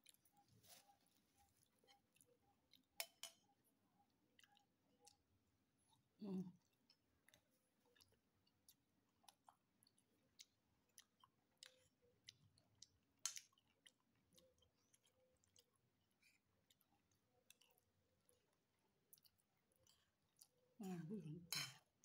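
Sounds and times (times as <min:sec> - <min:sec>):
person chewing with mouth closed: 0:00.0 - 0:03.0, 0:03.9 - 0:20.8.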